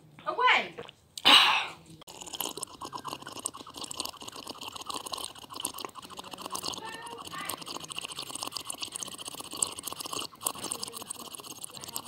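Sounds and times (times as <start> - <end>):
sipping juice crackle: 0.8 - 12.0.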